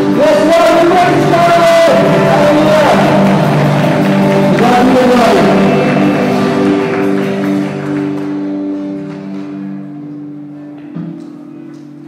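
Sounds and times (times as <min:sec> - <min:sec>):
live band held chord: 0:00.0 - 0:12.0.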